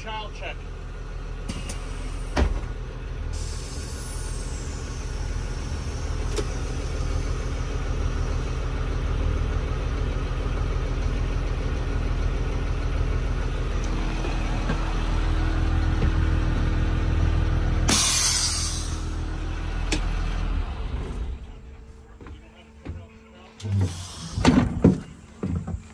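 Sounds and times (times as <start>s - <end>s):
bus engine idling: 0.0s - 25.9s.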